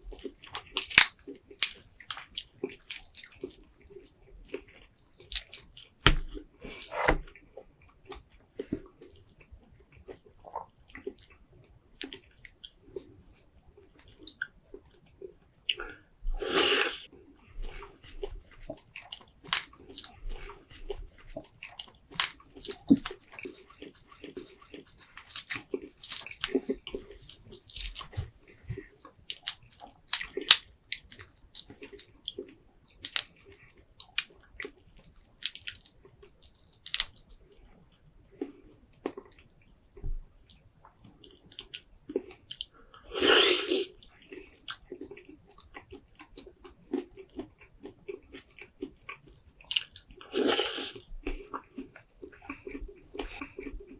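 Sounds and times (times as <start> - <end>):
wet chewing and smacking: 0.0 - 16.4, 17.0 - 53.9.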